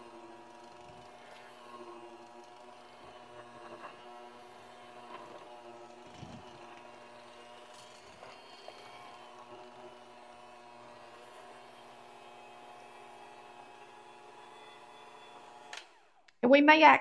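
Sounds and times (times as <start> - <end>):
electric hand mixer running: 0.0 - 16.3.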